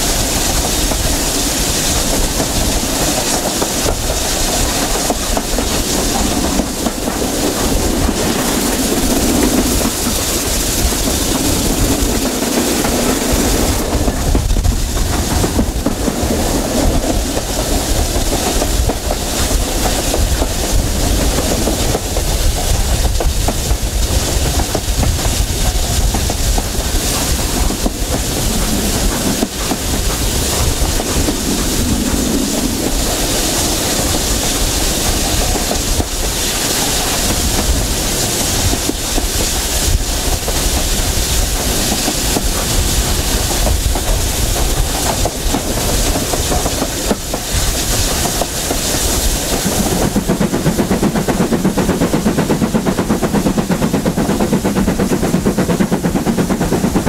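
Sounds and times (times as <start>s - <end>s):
steady rush of train noise: 0.0s - 57.0s
train wheels clicking over rail joints: 0.0s - 57.0s.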